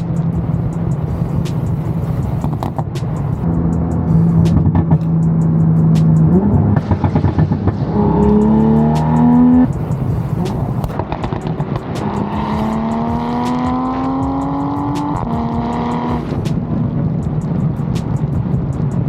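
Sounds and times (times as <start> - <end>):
car engine accelerating through gears: 0.0 - 19.0
exhaust crackles: 0.0 - 19.0.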